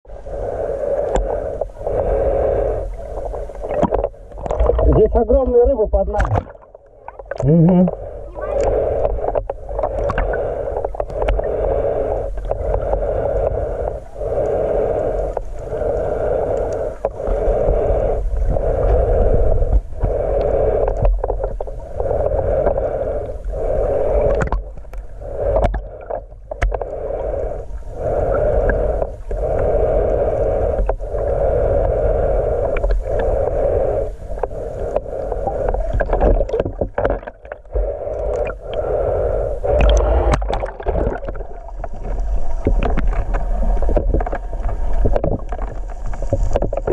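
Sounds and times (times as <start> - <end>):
water swishing around boat: 0.0 - 46.9
steady low rumble: 0.1 - 46.9.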